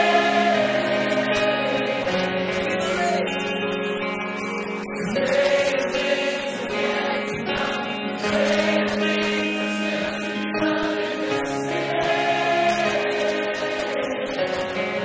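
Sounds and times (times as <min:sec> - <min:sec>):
choir singing: 0:00.0 - 0:03.3, 0:05.0 - 0:15.0
held chords: 0:00.0 - 0:15.0.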